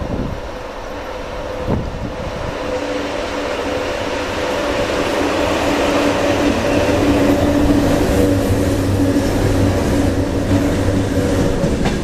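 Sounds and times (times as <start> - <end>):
electric locomotive hum: 0.0 - 12.0.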